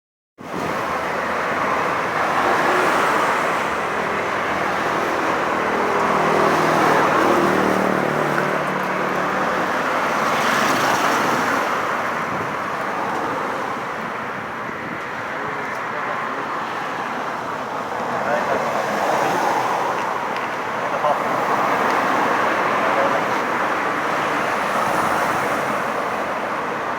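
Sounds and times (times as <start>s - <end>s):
road traffic noise: 0.4s - 26.9s.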